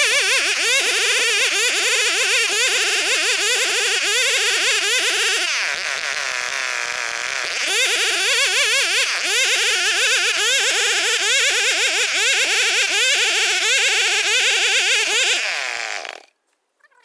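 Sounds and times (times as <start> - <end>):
chainsaw cutting wood: 0.0 - 16.4.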